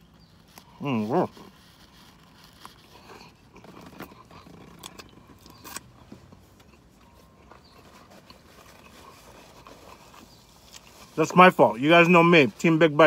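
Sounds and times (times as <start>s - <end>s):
person chewing toast: 0.0s - 11.1s.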